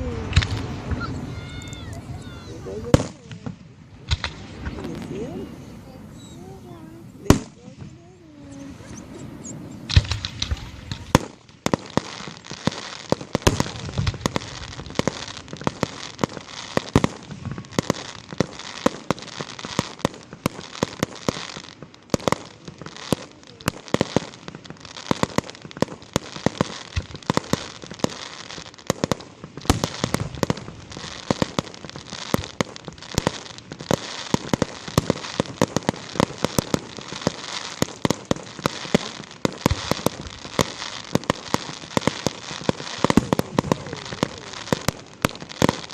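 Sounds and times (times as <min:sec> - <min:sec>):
deep firework booms: 0:00.0 - 0:45.9
fireworks crackling bangs: 0:00.0 - 0:45.9.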